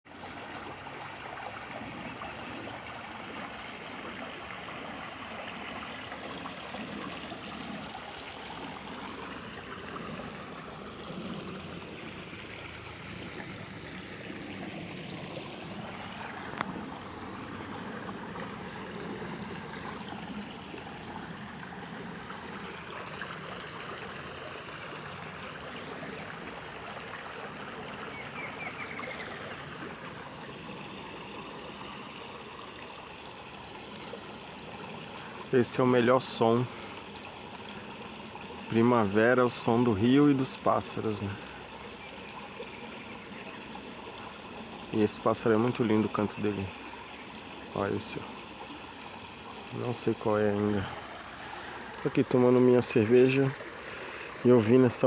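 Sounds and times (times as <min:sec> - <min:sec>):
river flowing: 0:00.1 - 0:55.0.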